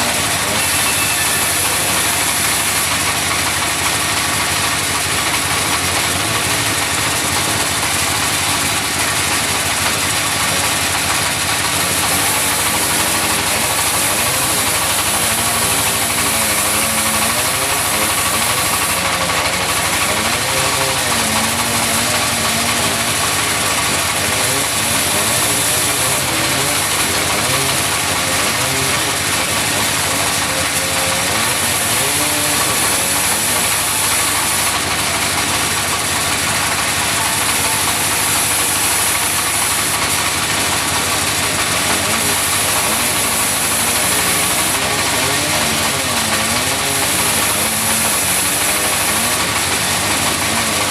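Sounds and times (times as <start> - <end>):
sawmill engine running: 0.0 - 50.9
wood saw hissing: 0.0 - 50.9.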